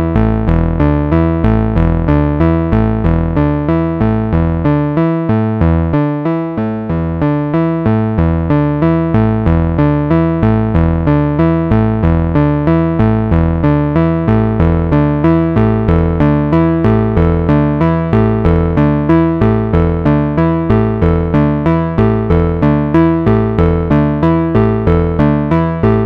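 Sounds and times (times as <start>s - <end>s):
synthesizer bass tones: 0.0s - 26.0s
synthesizer pulsing notes: 0.0s - 26.0s.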